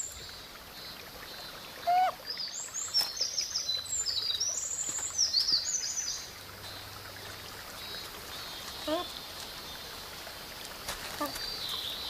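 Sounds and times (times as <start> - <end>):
faint forest background: 0.0 - 12.0.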